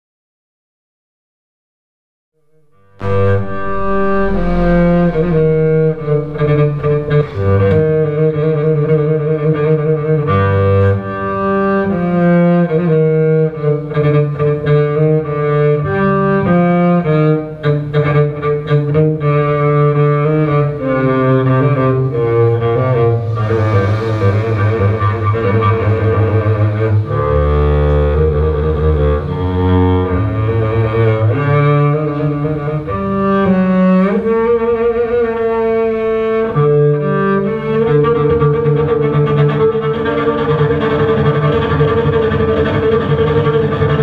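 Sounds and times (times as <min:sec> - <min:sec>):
low bowed strings: 0:02.5 - 0:44.0.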